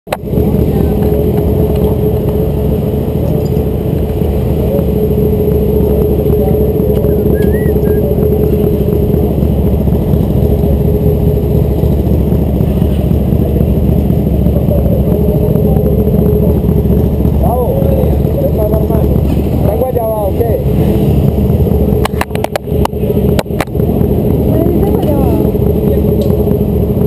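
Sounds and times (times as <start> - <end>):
motorcycle engine idling: 0.1 - 27.0.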